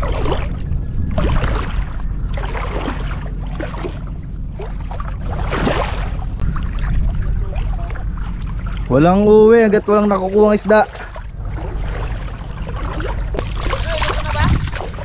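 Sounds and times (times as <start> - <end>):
seawater washing and splashing: 0.0 - 15.0
steady low rumble: 0.0 - 15.0.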